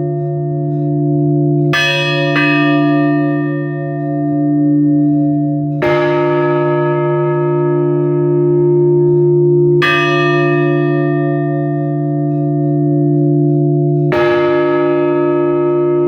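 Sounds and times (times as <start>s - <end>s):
church bell tolling: 0.0s - 16.0s
low hum of bells: 0.0s - 16.0s.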